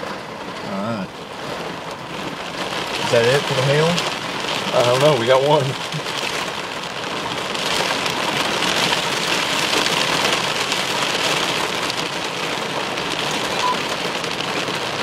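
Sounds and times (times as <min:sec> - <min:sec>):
heavy rain on window glass: 0:00.0 - 0:15.0.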